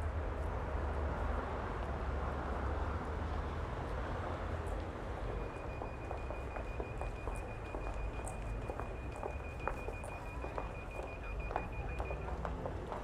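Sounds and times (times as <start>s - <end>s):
traffic engines and tyres: 0.0s - 13.0s.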